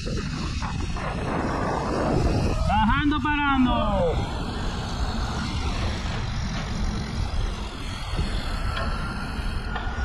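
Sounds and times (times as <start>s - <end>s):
road noise: 0.0s - 10.0s
wind buffeting microphone: 0.0s - 10.0s.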